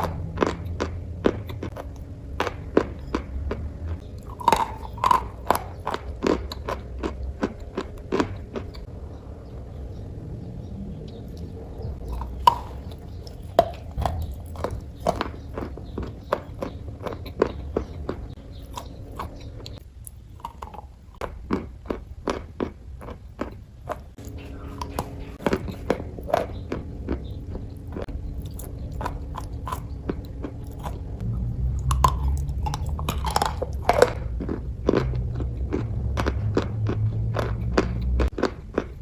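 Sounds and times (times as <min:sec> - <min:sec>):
chewing crunchy food: 0:00.0 - 0:08.9, 0:11.0 - 0:39.0
low steady hum: 0:00.0 - 0:39.0.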